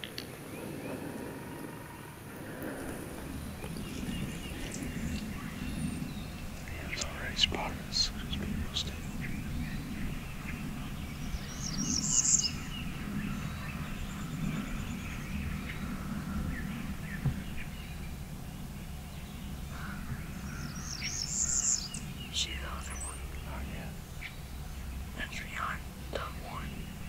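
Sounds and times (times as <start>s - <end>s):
low steady background rumble: 0.0s - 27.0s
songbirds chirping: 0.0s - 27.0s.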